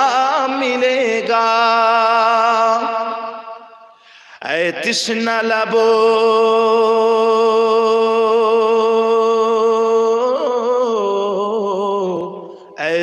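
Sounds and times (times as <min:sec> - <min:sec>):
man singing unaccompanied: 0:00.0 - 0:03.7, 0:04.4 - 0:13.0.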